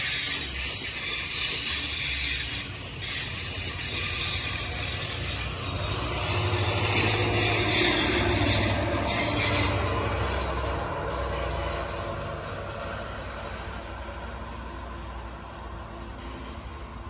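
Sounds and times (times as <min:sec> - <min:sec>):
diesel locomotive hum: 0:00.0 - 0:17.0
train wheels on rails: 0:00.0 - 0:17.0.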